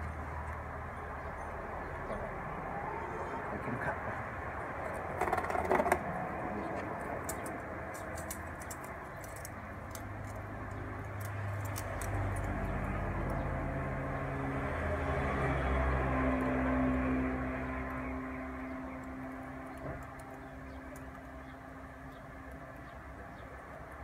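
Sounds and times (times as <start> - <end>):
vehicle engine passing: 0.0 - 8.2, 10.0 - 22.4.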